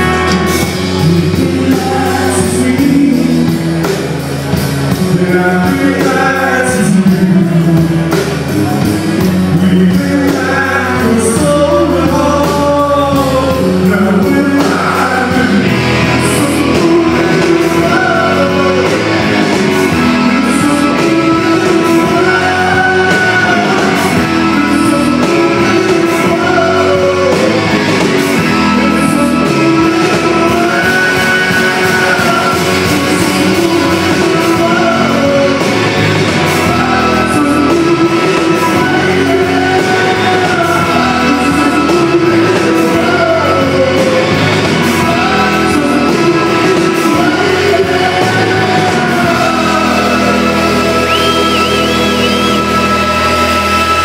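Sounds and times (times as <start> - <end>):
drums: 0.0 - 54.0
electric guitars: 0.0 - 54.0
organ: 0.0 - 54.0
person singing: 0.0 - 54.0.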